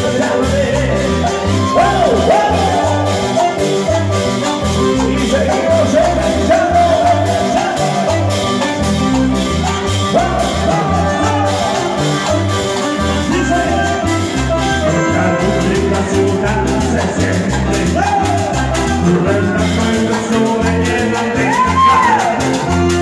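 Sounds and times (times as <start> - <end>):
live band dance music: 0.0 - 23.0.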